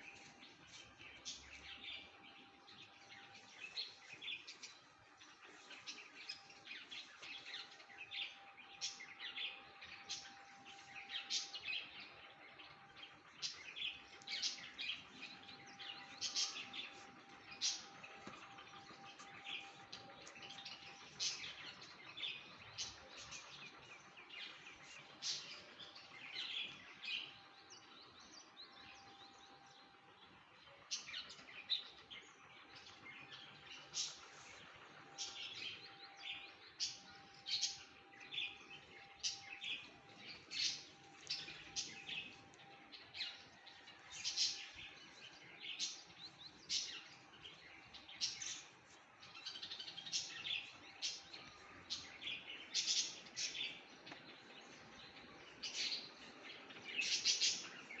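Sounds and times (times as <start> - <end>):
birds chirping: 0.0 - 58.0
faint steady hum: 0.0 - 58.0.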